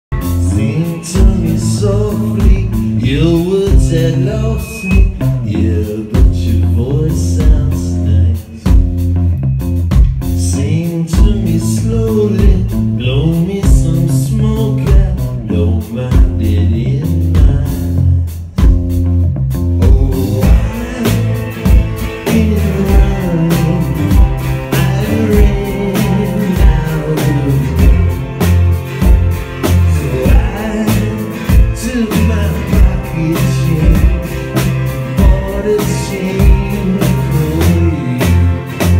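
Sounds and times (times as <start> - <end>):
bass: 0.0 - 38.9
steady drum beat: 0.1 - 38.9
man singing: 0.2 - 8.9, 10.3 - 18.6, 19.7 - 28.6, 29.6 - 38.9.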